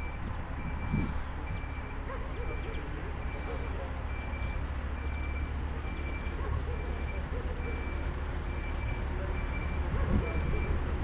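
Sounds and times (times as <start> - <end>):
high warning beeps: 0.0 - 10.9
diesel engine running: 0.0 - 11.0.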